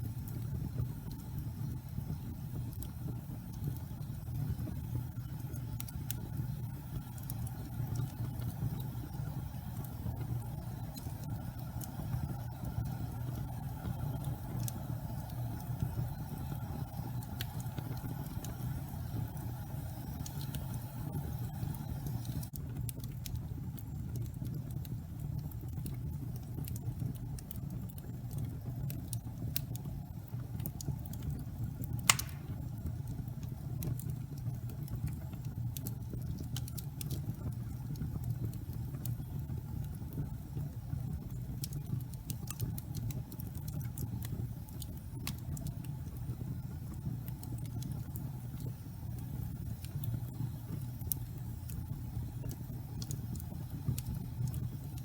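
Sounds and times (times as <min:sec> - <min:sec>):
fire pops: 0:00.0 - 0:55.0
low rumble of flames: 0:00.0 - 0:55.0
wood fire crackling: 0:00.0 - 0:55.0.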